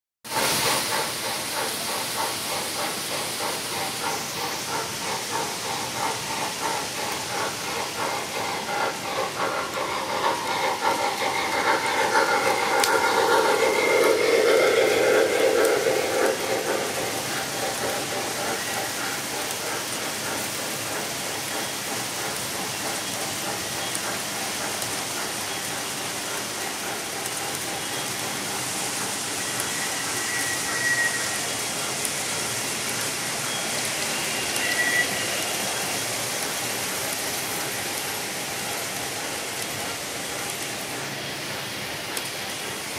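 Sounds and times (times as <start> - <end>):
model steam train hissing and chuffing: 0.2 - 42.9
model train rolling on track: 0.3 - 42.9.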